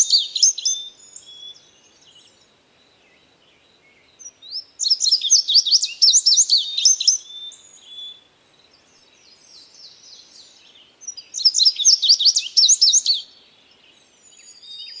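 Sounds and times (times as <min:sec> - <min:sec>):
faint bird calls: 0:00.0 - 0:15.0
songbird chirping: 0:00.0 - 0:15.0.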